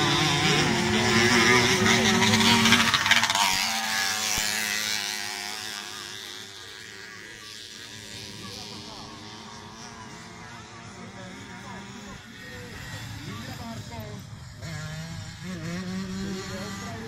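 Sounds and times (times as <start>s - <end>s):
distant dirt bike engines buzzing: 0.0s - 17.0s
motocross bike passing close: 0.0s - 17.0s.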